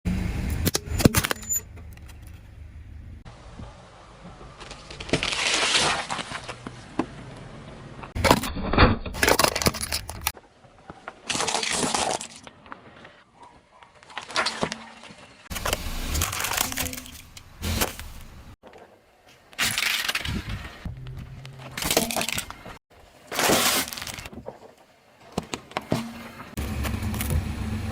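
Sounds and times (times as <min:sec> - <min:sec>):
objects crunching under car tyres: 0:03.6 - 0:13.3, 0:14.0 - 0:27.4.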